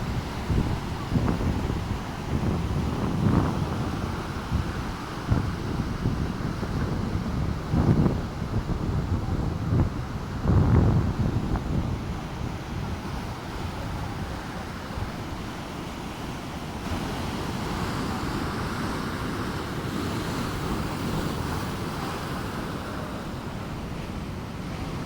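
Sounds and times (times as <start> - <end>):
ocean surf washing ashore: 0.0 - 25.0
wind buffeting microphone: 0.0 - 25.0.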